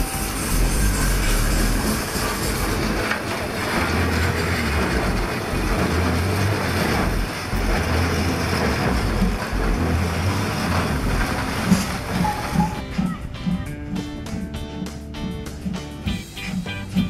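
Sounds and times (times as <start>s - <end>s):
steam roller rumbling on gravel: 0.0s - 17.0s.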